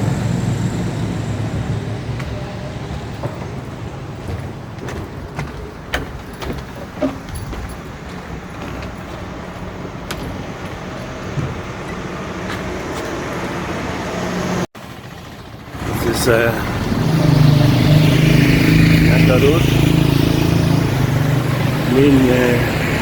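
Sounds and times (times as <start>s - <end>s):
motor vehicle road noise: 0.0s - 23.0s.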